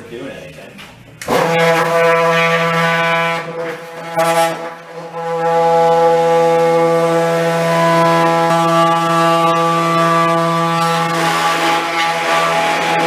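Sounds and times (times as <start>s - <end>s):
oscillating multi-tool buzzing: 1.3s - 13.0s.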